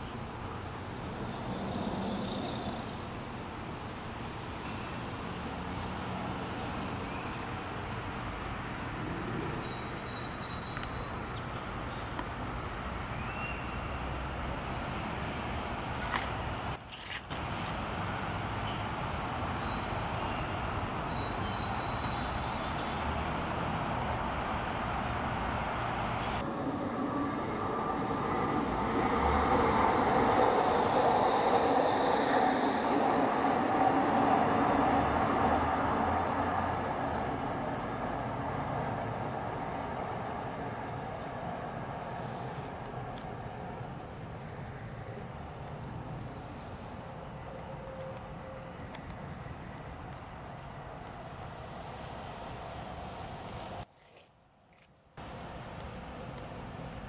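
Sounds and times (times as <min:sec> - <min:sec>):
rumble of distant vehicles: 0:00.0 - 0:57.0.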